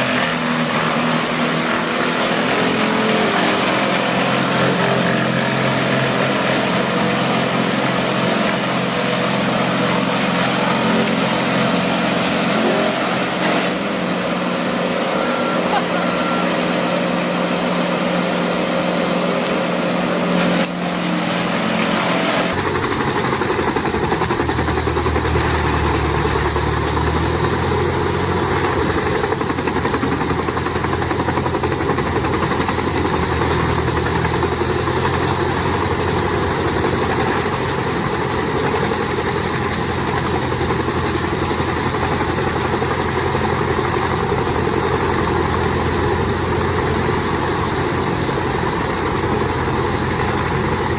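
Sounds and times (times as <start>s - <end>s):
broad mechanical noise: 0.0s - 50.9s
deep engine running: 0.0s - 50.9s
wood chipper engine running: 0.0s - 50.9s.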